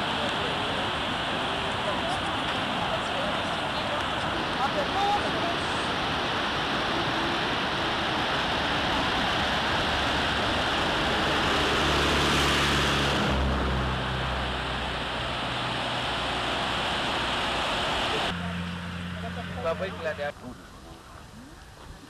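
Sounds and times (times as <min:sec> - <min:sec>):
waterfall rushing over rocks: 0:00.0 - 0:18.7.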